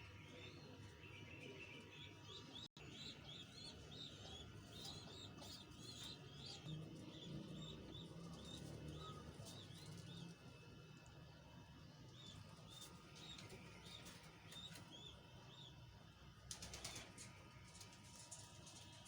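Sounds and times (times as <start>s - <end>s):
faint bird chirping: 0.0s - 15.9s.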